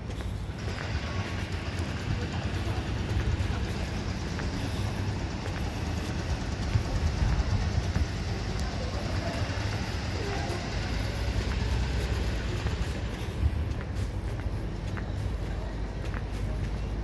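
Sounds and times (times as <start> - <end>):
low city background rumble: 0.0 - 17.0.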